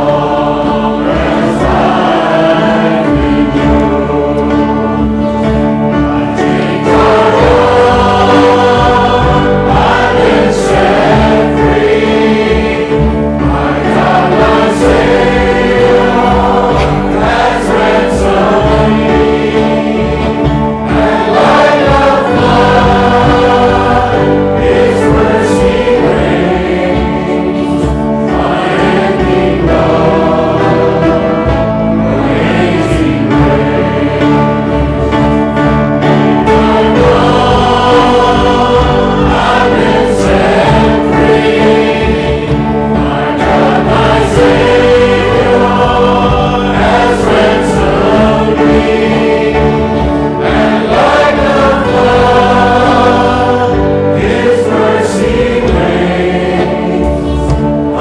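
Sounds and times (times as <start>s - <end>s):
group singing gospel song: 0.0s - 58.0s
sustained instrumental accompaniment: 0.0s - 58.0s.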